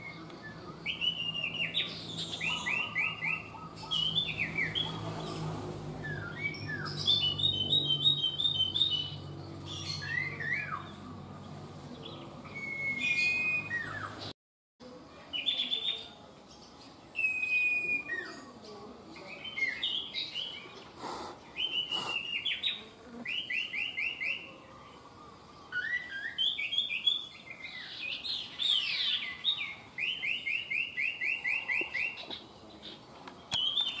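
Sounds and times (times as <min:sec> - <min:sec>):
bird singing: 0:00.0 - 0:14.3, 0:15.3 - 0:34.0.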